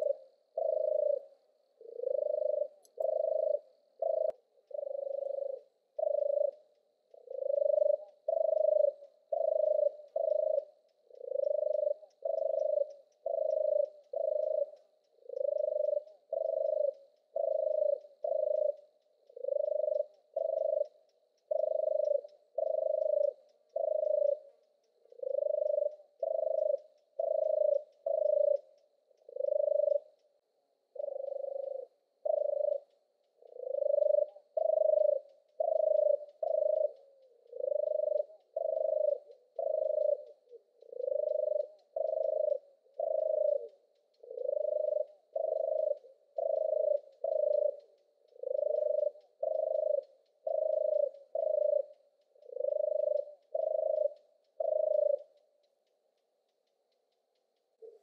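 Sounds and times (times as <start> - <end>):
turtle dove purring song: 0.0 - 58.0.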